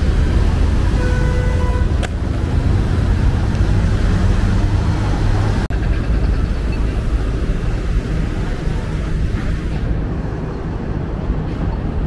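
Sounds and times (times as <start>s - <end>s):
low rumble of city noise: 0.0s - 12.0s.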